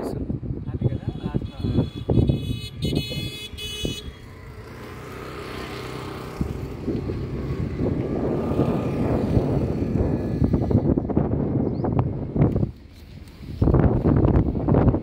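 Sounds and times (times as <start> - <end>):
road and wind rush: 0.0 - 15.0.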